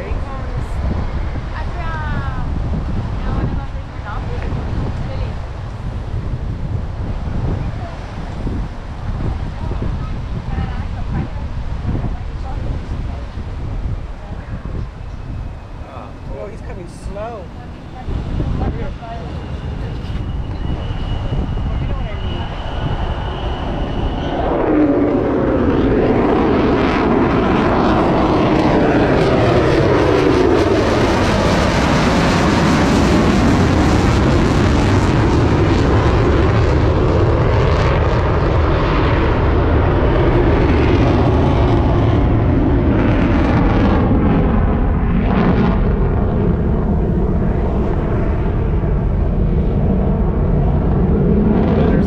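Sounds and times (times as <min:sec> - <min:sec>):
jet engine roaring past: 0:00.0 - 0:52.0.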